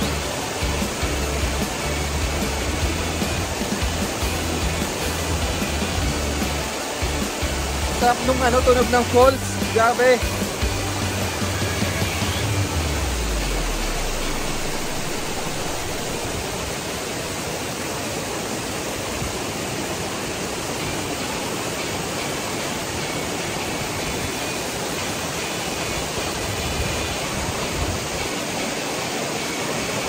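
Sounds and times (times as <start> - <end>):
river rapids churning: 0.0 - 30.0
waterfall rushing: 0.0 - 30.0.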